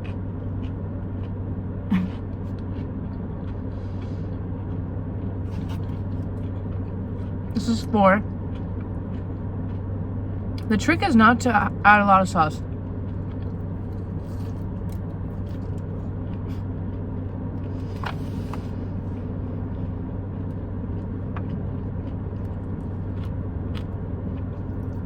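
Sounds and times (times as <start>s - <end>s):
chewing clicks: 0.0s - 1.4s, 2.0s - 7.5s, 8.2s - 10.7s, 12.6s - 18.2s, 19.7s - 25.0s
car idling inside cabin: 0.0s - 25.0s.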